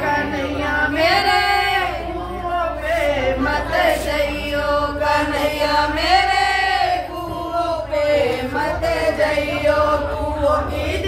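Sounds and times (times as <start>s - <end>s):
women singing together unaccompanied: 0.0s - 11.0s.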